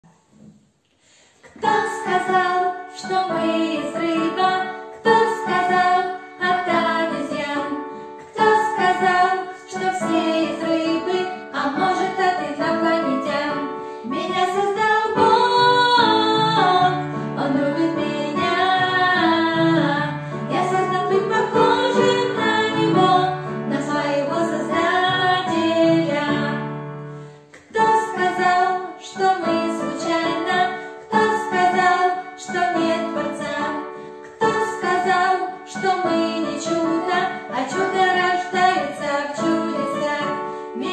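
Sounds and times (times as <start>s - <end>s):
woman singing with accompaniment: 1.4s - 26.8s, 27.5s - 40.9s.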